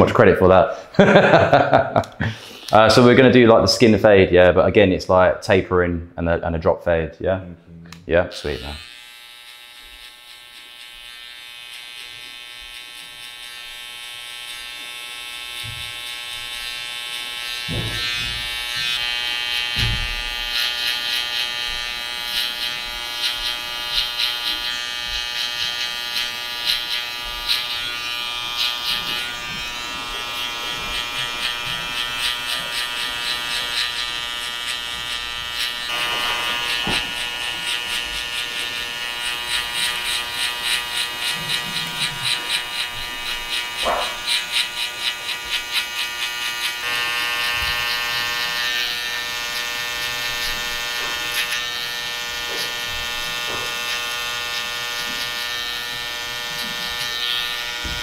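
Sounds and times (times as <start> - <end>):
hair trimmer buzzing: 0.8 - 3.5, 8.3 - 58.0.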